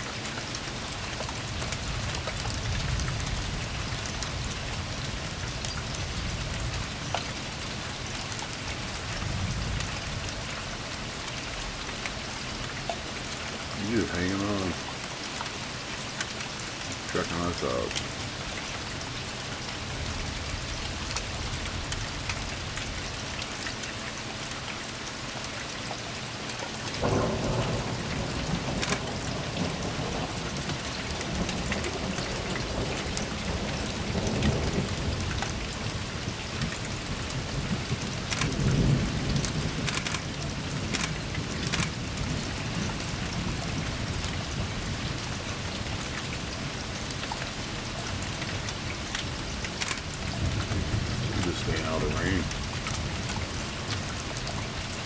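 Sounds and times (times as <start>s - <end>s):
raindrop ticks: 0.0s - 55.0s
steady rain: 0.0s - 55.0s.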